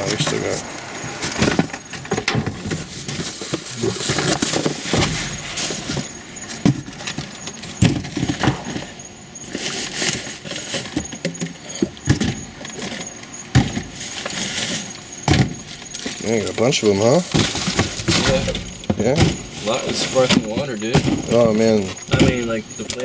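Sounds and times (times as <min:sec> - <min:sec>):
cans and rubbish clattering: 0:00.0 - 0:23.0
rustling: 0:00.0 - 0:23.0
squeaks: 0:00.0 - 0:23.0.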